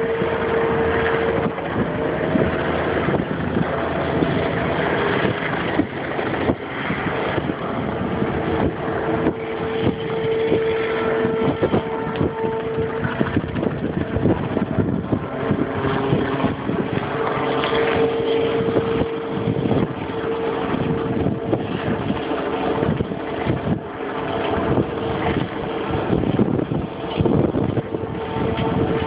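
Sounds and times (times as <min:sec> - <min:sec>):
steady mechanical hum: 0:00.0 - 0:29.0
wind buffeting microphone: 0:00.0 - 0:29.0.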